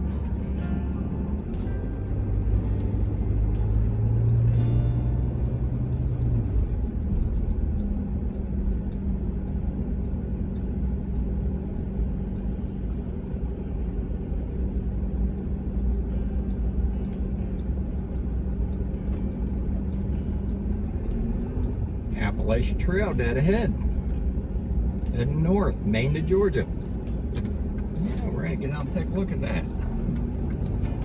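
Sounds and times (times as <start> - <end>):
vehicle engine and tyres rumbling: 0.0 - 31.0.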